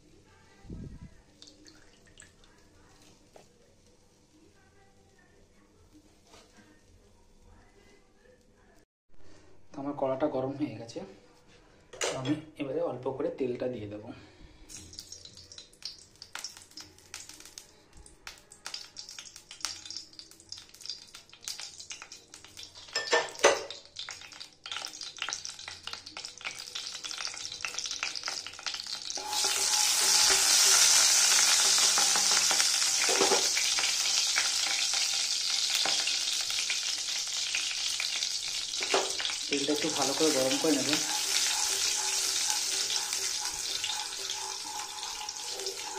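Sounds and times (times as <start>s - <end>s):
oil crackling and sizzling: 0.0s - 8.0s, 14.5s - 45.9s.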